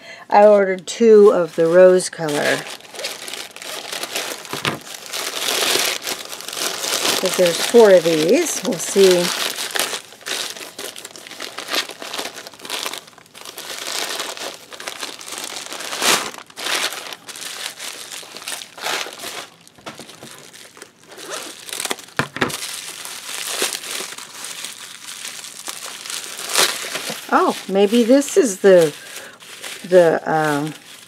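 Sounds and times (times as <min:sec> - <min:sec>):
plastic packaging crinkling: 0:00.4 - 0:31.0.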